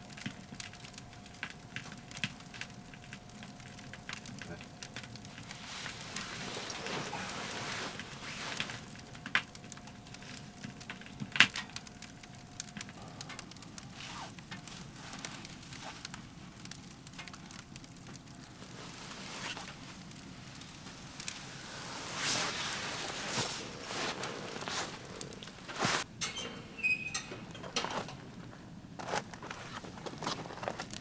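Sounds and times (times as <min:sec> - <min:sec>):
firewood crackling and popping: 0:00.0 - 0:31.0
low hiss: 0:01.2 - 0:11.2, 0:11.8 - 0:31.0.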